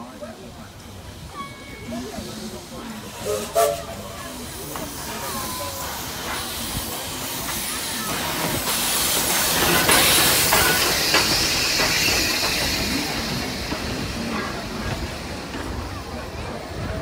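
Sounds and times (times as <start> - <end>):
steam locomotive hissing: 0.0 - 17.0
train wheels clicking: 0.7 - 17.0.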